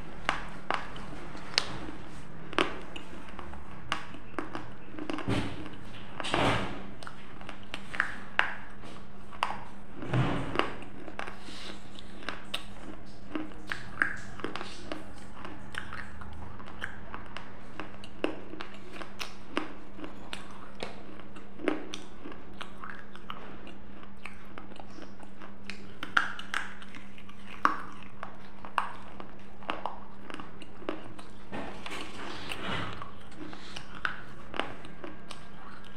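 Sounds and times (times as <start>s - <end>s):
steady low hum: 0.0s - 35.9s
person crunching and chewing: 0.1s - 6.2s, 6.9s - 35.9s.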